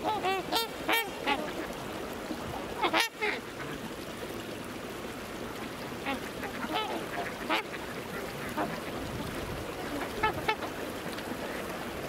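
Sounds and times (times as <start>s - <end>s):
waterfowl honking and quacking: 0.0s - 4.0s, 5.4s - 11.8s.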